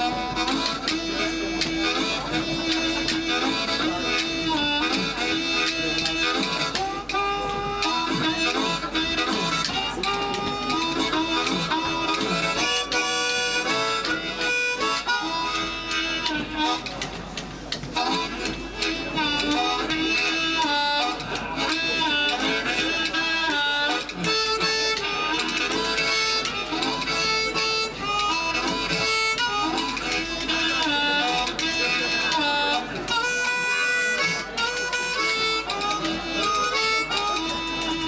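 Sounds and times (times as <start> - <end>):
amplified blues harmonica: 0.0 - 38.0
guitar backing: 0.0 - 38.0.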